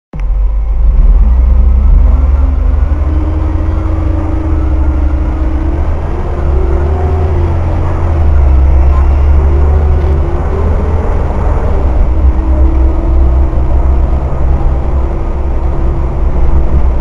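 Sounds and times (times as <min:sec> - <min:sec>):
diesel bus engine rumble: 0:00.1 - 0:17.0
rising transmission whine: 0:00.2 - 0:17.0.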